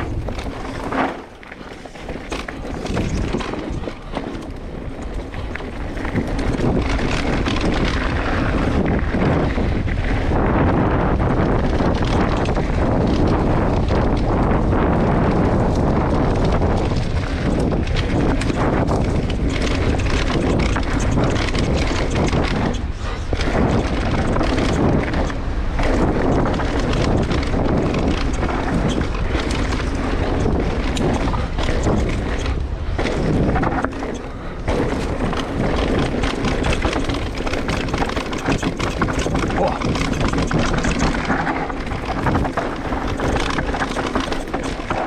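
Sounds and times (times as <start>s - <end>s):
bike frame rattling: 0.0s - 9.4s, 16.0s - 45.0s
tyres on rough ground: 0.0s - 10.2s, 16.4s - 45.0s
wind buffeting microphone: 0.0s - 45.0s.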